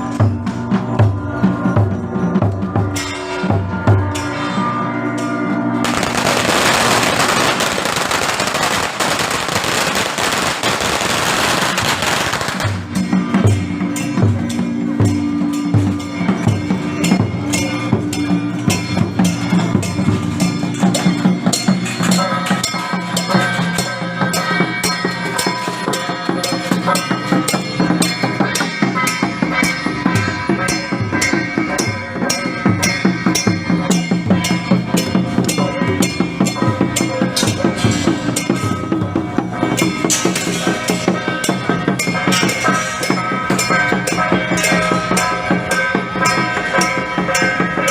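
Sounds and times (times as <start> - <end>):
fast drum and percussion beats: 0.0 - 47.9
sustained pitched melody: 1.5 - 47.9.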